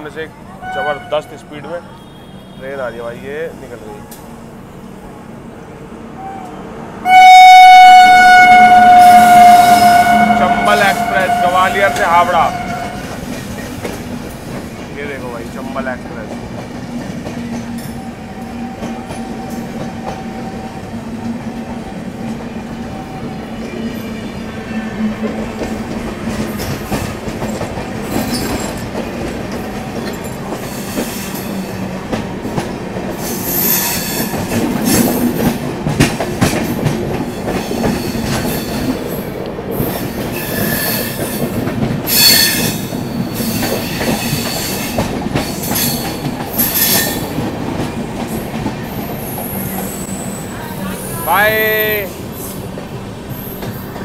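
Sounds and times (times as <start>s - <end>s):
train wheels rumbling on rails: 6.2s - 54.0s.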